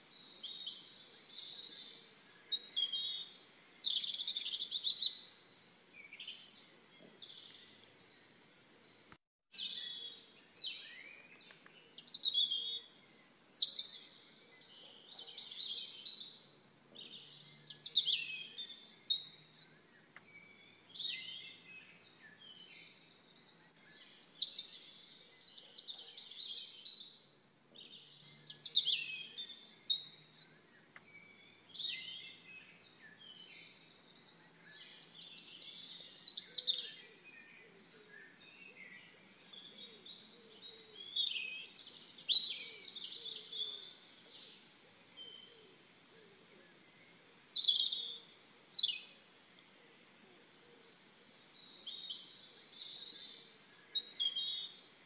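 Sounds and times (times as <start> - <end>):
faint background hiss: 0.0 - 55.0
songbirds chirping and trilling: 0.0 - 55.0.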